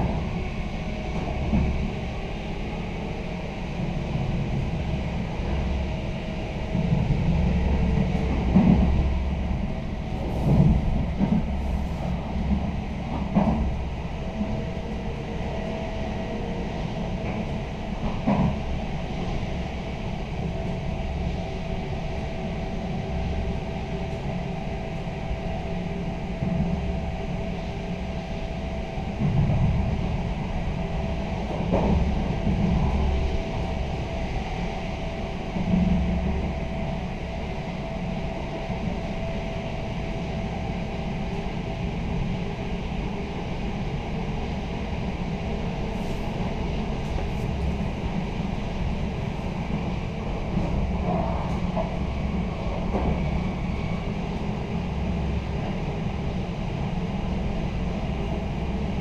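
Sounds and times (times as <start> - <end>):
train wheel-on-rail rumble: 0.0 - 59.0.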